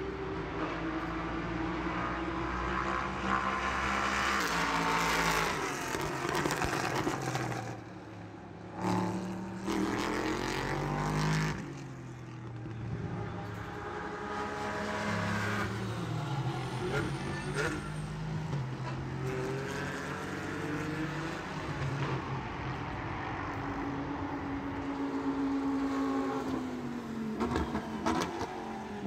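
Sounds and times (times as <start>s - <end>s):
racing car engines revving: 0.0s - 29.0s.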